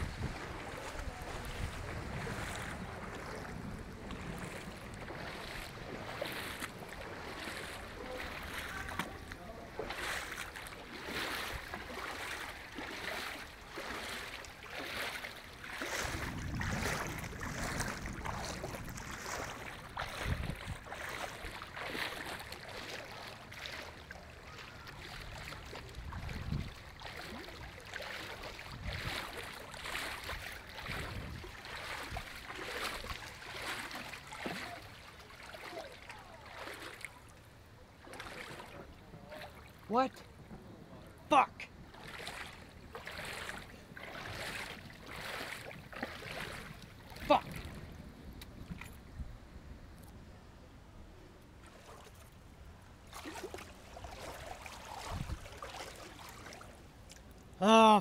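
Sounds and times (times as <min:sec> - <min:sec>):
floodwater sloshing and splashing: 0:00.0 - 0:49.1, 0:51.3 - 0:58.0.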